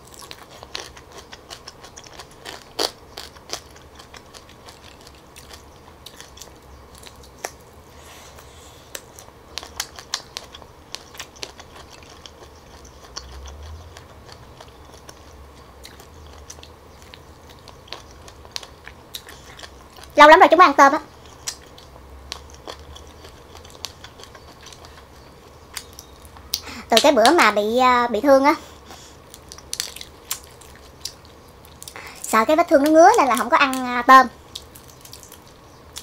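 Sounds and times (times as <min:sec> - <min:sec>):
crunchy chewing of prawns: 0:00.0 - 0:20.2, 0:21.0 - 0:26.9, 0:28.6 - 0:36.0.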